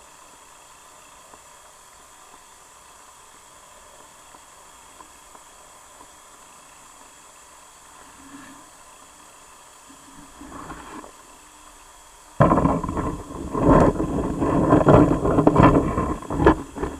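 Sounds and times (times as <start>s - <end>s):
faint steady hiss: 0.0s - 16.9s
underwater rushing water: 0.0s - 16.9s.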